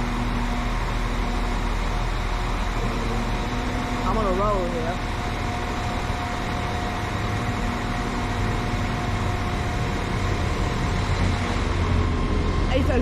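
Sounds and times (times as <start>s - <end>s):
train low hum: 0.0s - 13.0s
train whine: 0.0s - 13.0s.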